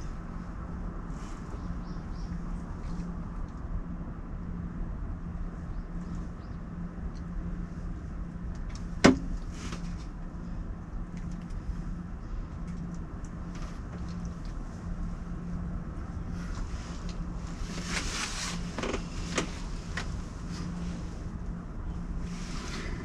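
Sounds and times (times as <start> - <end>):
faint hum: 0.0 - 23.0
wind rumble on microphone: 0.0 - 23.0.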